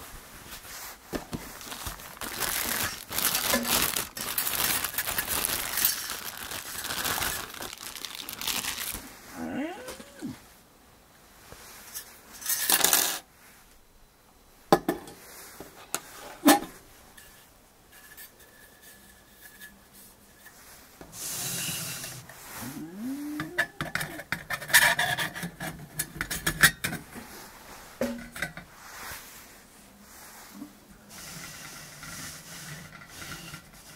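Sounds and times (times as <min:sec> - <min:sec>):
rustling scrape: 0:00.0 - 0:10.5, 0:15.1 - 0:33.9.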